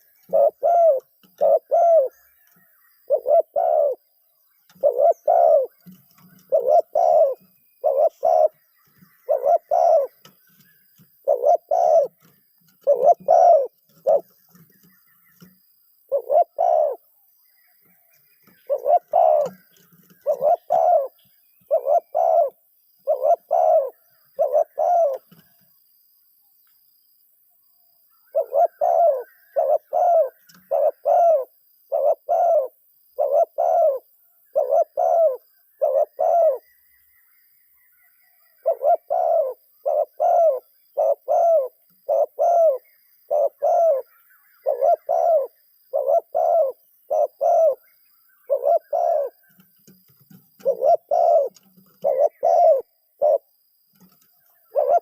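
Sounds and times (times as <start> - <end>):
dove cooing: 0.0 - 4.1, 4.7 - 15.5, 16.1 - 17.1, 18.4 - 25.5, 28.3 - 36.7, 38.6 - 47.8, 48.4 - 55.0.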